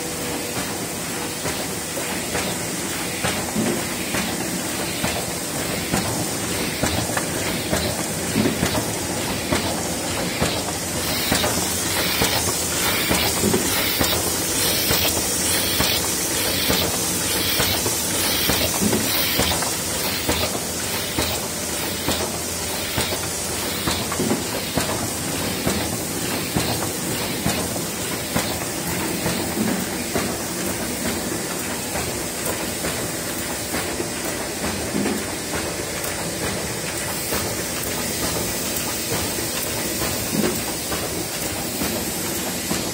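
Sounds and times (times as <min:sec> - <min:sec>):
constant mechanical hiss: 0:00.0 - 0:42.9
printing press clattering: 0:00.2 - 0:42.9.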